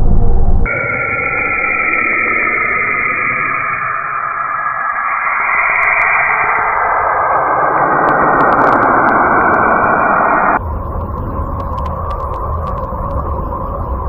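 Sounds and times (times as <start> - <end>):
deep rumbling drone: 0.0 - 14.0
steady hissing rush: 0.0 - 14.0.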